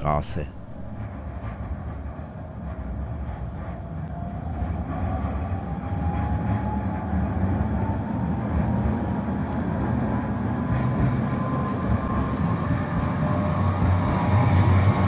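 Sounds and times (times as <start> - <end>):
tram rolling rumble: 0.0 - 15.0.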